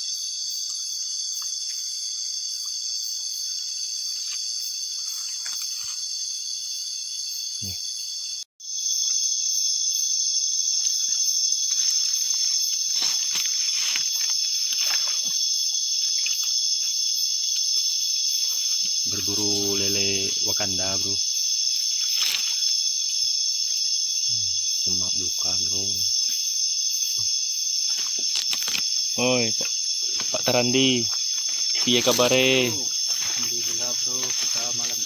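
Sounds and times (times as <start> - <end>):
high-pitched insect chorus: 0.0 - 35.0.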